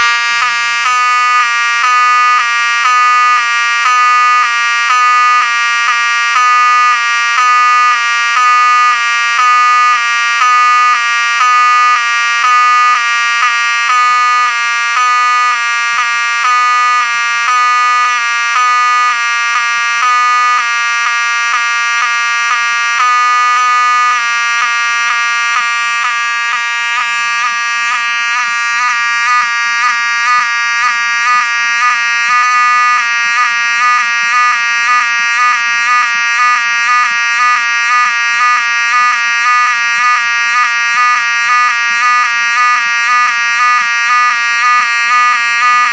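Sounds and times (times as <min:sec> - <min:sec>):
fire alarm horn stepping pitch: 0:00.0 - 0:45.9.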